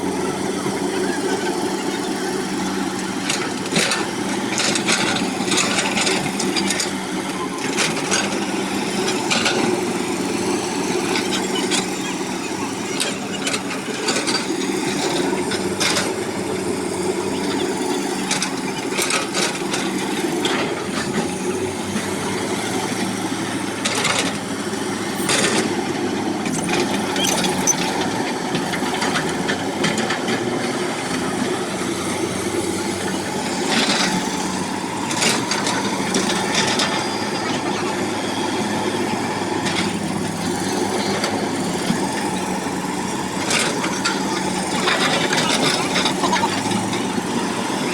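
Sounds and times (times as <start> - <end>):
diesel excavator engine running: 0.0 - 47.9.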